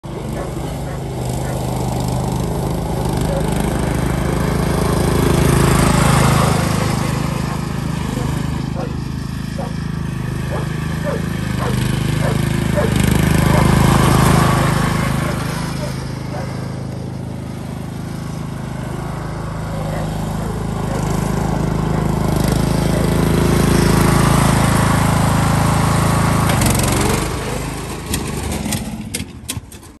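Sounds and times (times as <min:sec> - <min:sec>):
riding lawn mower engine: 0:00.0 - 0:30.0.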